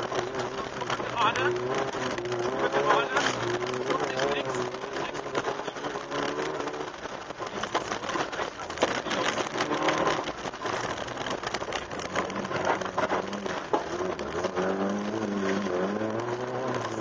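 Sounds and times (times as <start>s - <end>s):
gravel rattling against underbody: 0.0s - 17.0s
rally car engine under load: 0.0s - 17.0s.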